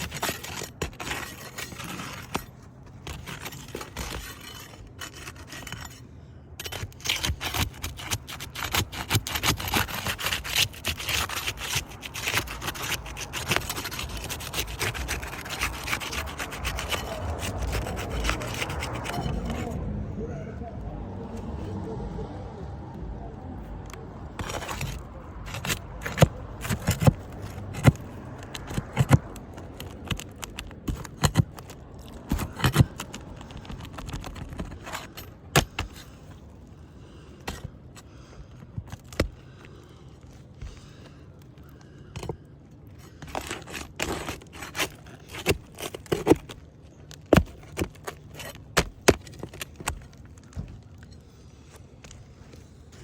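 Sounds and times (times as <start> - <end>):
tool clicking and scraping shingles: 0.0 - 19.8, 23.7 - 53.0.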